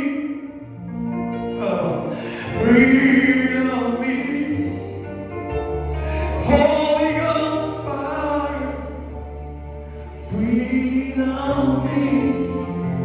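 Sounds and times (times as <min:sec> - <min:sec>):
gospel singing: 0:00.0 - 0:00.6, 0:01.5 - 0:13.0
sustained chords and bass: 0:00.0 - 0:13.0.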